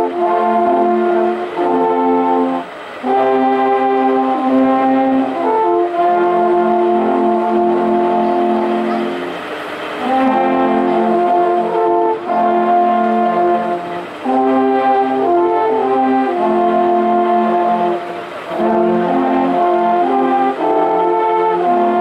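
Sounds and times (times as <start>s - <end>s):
alphorns playing chords: 0.0s - 22.0s.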